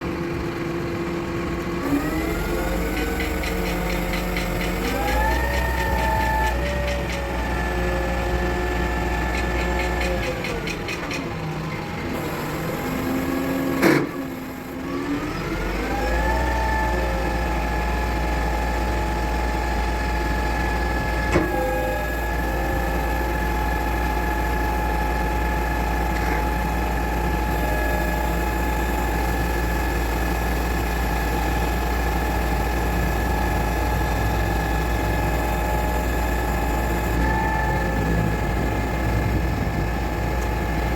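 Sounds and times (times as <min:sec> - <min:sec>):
diesel engine running with whine: 0:00.0 - 0:40.9.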